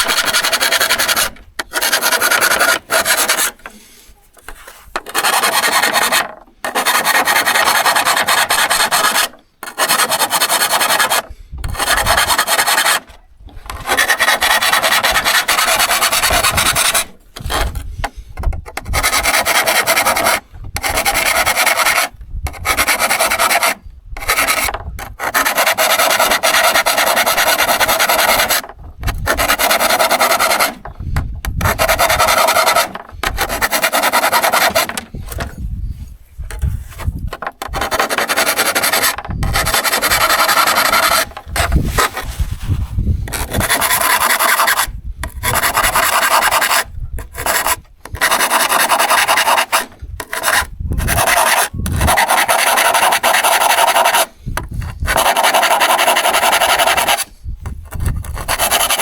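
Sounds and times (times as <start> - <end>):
rasping strokes on steel saw: 0.0 - 3.8, 4.5 - 13.1, 13.7 - 17.9, 18.7 - 35.6, 36.5 - 59.0.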